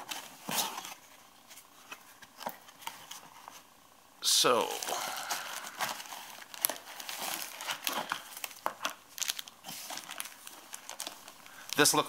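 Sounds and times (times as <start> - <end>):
packaging crinkling and rustling: 0.0 - 3.8, 4.6 - 12.0.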